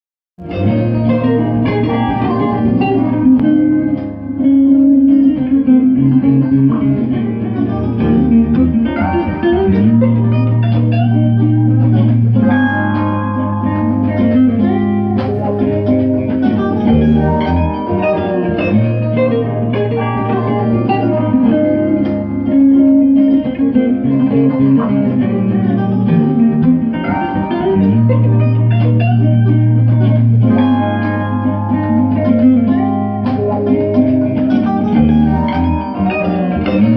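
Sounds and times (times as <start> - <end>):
bass guitar low notes: 0.4 - 36.9
electric guitar lines: 0.4 - 36.9.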